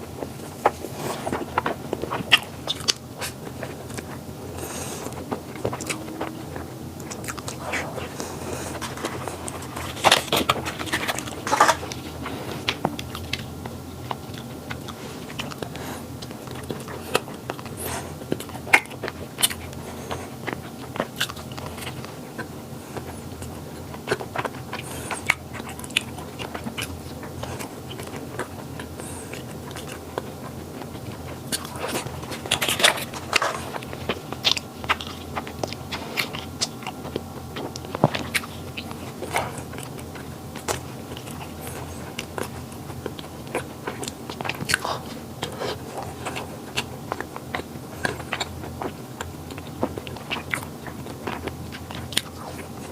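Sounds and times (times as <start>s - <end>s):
person chewing crisp pastry: 0.0s - 52.9s.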